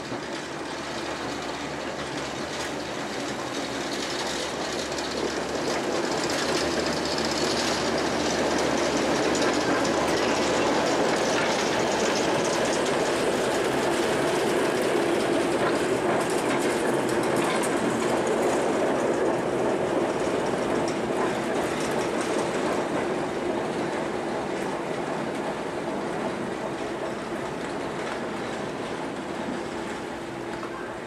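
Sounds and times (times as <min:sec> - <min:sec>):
train wheels clicking over rail joints: 0:00.0 - 0:31.0.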